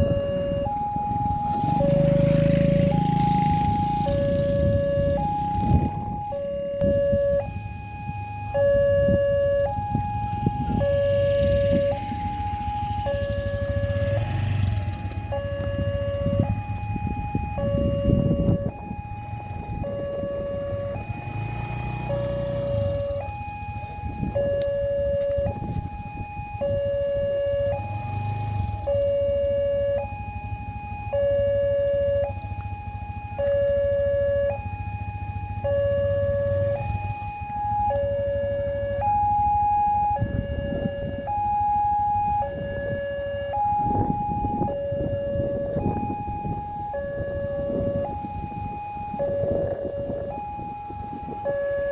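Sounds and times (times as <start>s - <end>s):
two-tone level crossing alarm: 0.0s - 51.9s.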